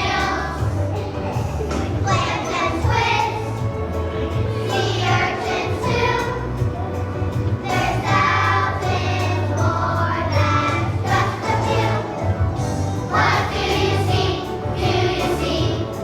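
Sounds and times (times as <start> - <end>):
children's choir singing: 0.0 - 16.0
musical accompaniment with bass: 0.0 - 16.0.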